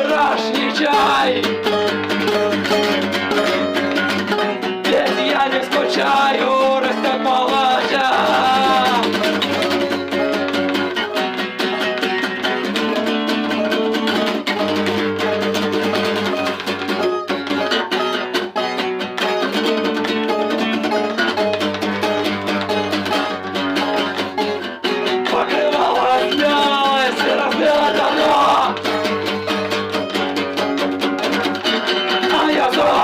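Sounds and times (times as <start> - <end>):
acoustic guitars strummed: 0.0 - 33.0.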